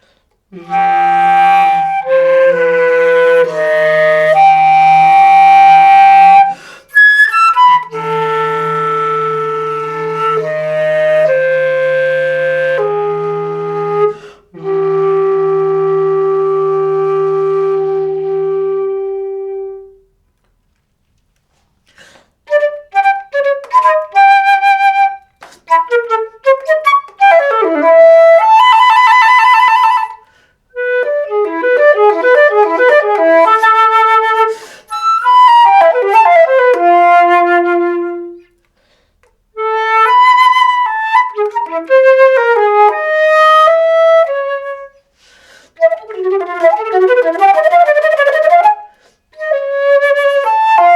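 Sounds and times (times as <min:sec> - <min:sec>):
solo flute playing: 0:00.5 - 0:20.2, 0:22.4 - 0:38.7, 0:39.5 - 0:50.9.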